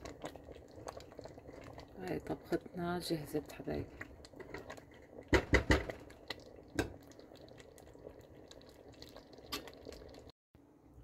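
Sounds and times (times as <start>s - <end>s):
spatula stirring soup: 0.0s - 10.3s
soup bubbling in a pot: 0.0s - 10.4s.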